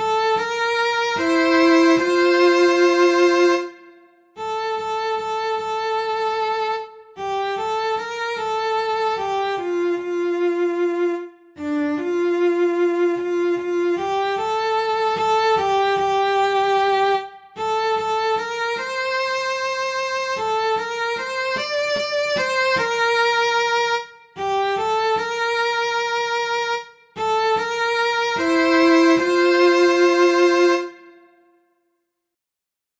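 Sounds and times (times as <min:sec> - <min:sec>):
solo cello melody: 0:00.0 - 0:31.6.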